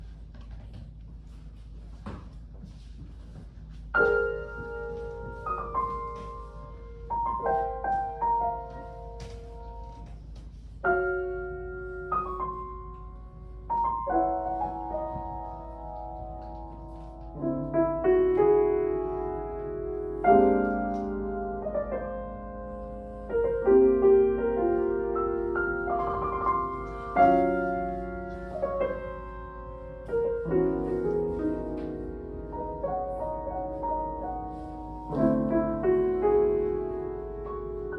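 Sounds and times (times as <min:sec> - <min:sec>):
slow classical piano piece: 0:00.0 - 0:37.9.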